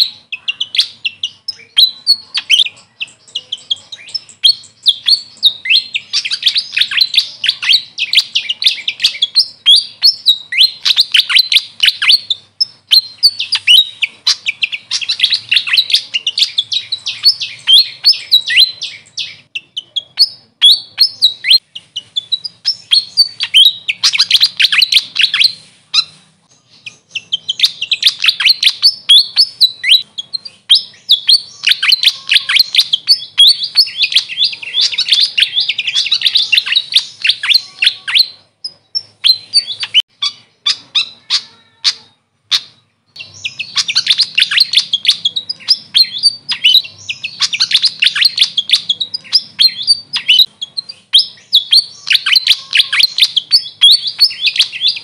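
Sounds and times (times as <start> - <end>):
bird singing high squeaky chirps: 0.0 - 55.0.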